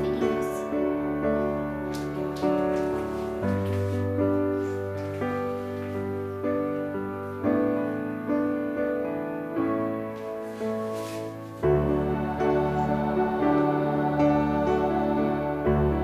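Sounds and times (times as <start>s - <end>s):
soft piano: 0.0s - 16.0s.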